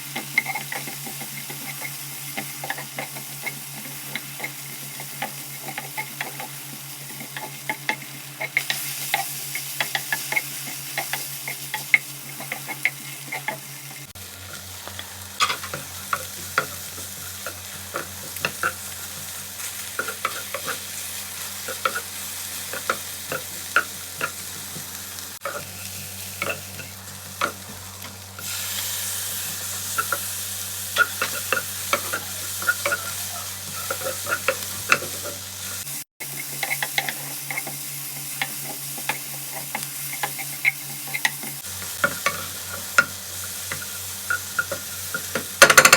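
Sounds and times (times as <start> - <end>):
food sizzling in a pan: 0.0 - 45.9
utensil scraping a pan: 0.2 - 45.9.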